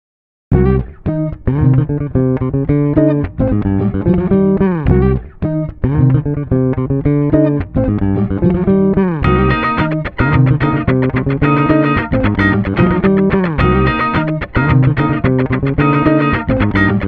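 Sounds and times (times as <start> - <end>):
looped bass guitar music: 0.5 - 17.0.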